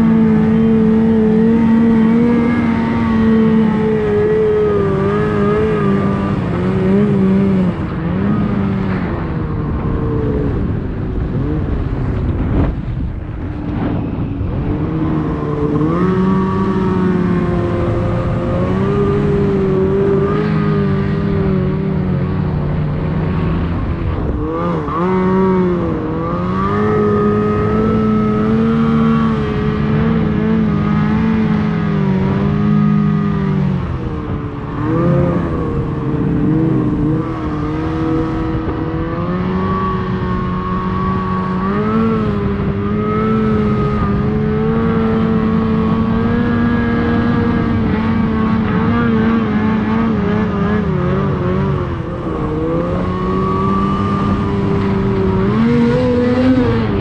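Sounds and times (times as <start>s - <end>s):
snowmobile engine revving: 0.0s - 13.0s, 13.7s - 57.0s.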